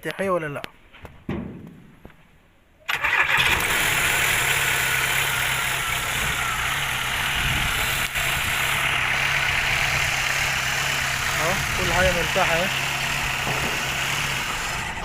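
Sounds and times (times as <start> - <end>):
car engine starting and idling: 2.9 - 15.0.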